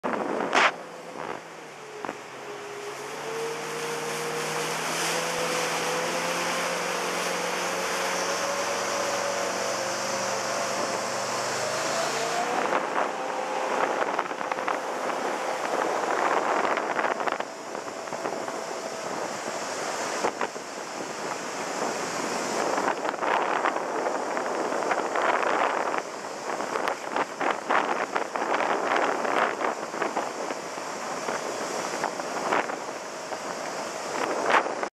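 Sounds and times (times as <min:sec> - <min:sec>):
jet boat engine drone: 0:00.0 - 0:34.9
rushing water: 0:00.0 - 0:34.9
wind buffeting microphone: 0:00.0 - 0:34.9.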